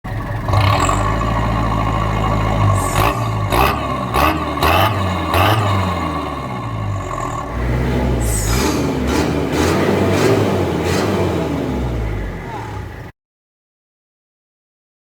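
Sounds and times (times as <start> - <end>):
engine revving blips: 0.1 - 13.1
pickup truck engine idling: 0.1 - 13.1.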